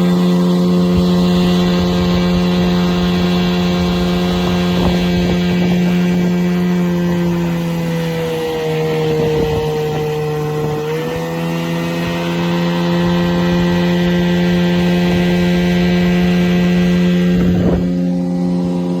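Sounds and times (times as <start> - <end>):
two-stroke outboard motor running: 0.0 - 19.0.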